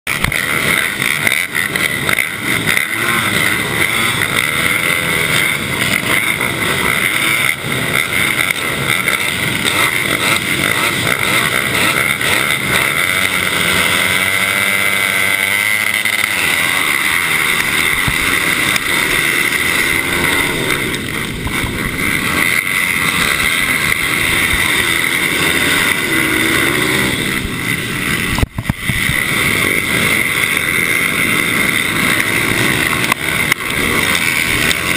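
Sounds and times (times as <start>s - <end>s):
mini bike engines revving: 0.1s - 34.9s.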